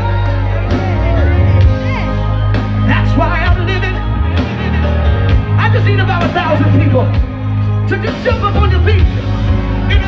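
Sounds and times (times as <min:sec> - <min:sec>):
gospel band playing: 0:00.0 - 0:10.0
heavy bass line: 0:00.0 - 0:10.0.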